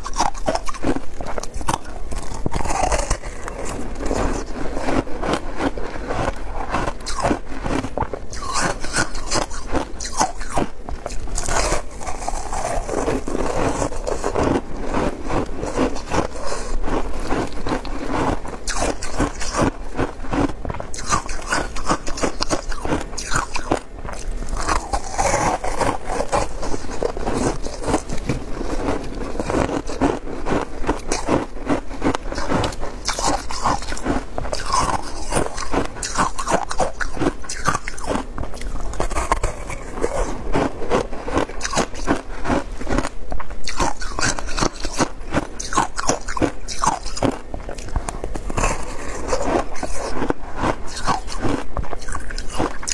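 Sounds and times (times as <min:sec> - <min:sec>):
chewing crunchy shaved ice: 0:00.0 - 0:52.9.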